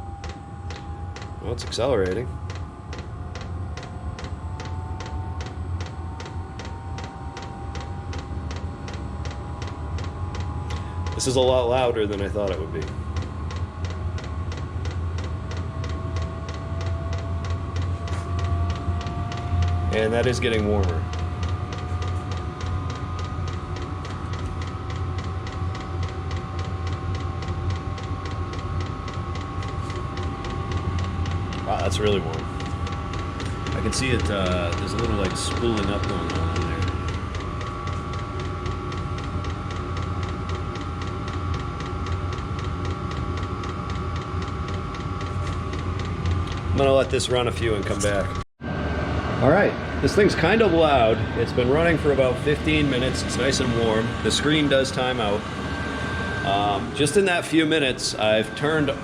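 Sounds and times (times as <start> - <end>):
combustion fan humming: 0.0 - 59.0
thin whine: 0.0 - 59.0
fuel pump ticking: 0.2 - 48.2.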